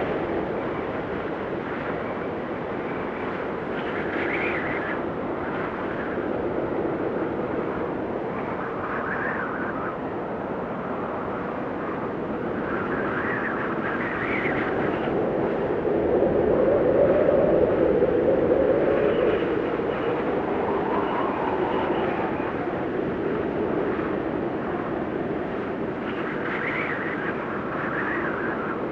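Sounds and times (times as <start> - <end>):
blizzard wind gusting: 0.0 - 28.9.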